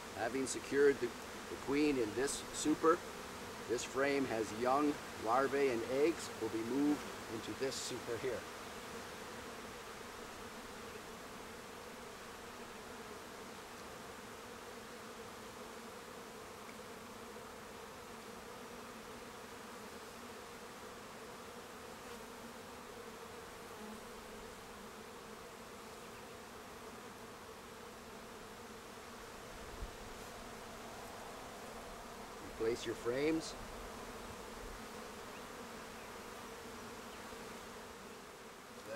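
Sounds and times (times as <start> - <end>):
honey bees buzzing: 0.0 - 38.9.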